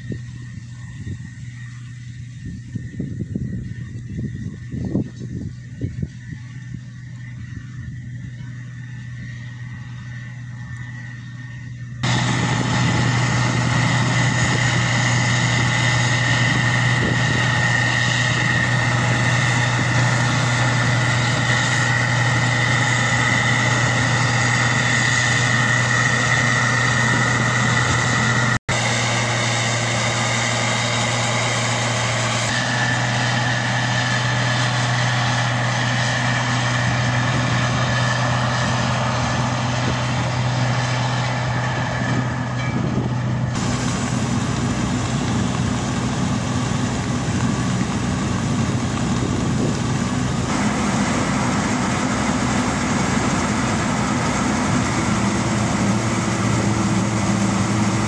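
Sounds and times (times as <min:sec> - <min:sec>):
combine harvester engine drone: 0:00.0 - 0:58.0
high steady whine: 0:00.0 - 0:58.0.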